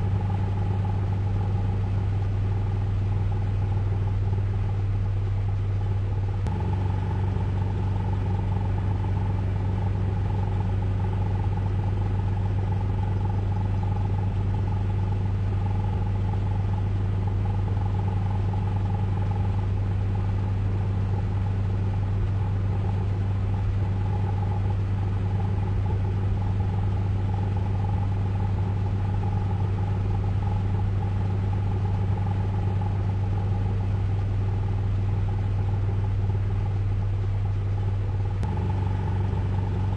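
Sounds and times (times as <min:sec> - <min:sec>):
car wash machinery drone: 0:00.0 - 0:39.9.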